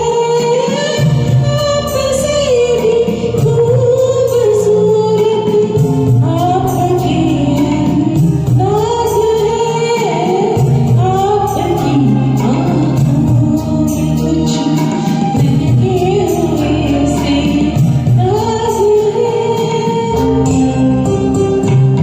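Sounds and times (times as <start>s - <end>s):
instrumental backing track: 0.0s - 22.0s
person singing karaoke: 0.0s - 22.0s.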